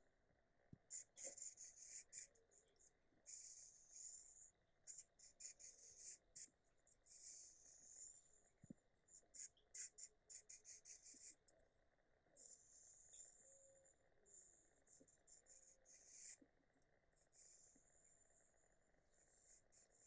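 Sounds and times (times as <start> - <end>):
faint high-pitched scratching: 0.8 - 11.6, 12.3 - 20.0.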